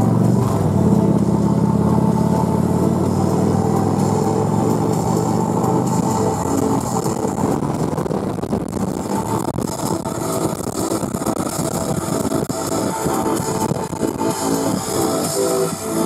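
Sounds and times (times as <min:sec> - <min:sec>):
moving vehicle noise: 0:00.0 - 0:16.0
music playing: 0:00.0 - 0:16.0.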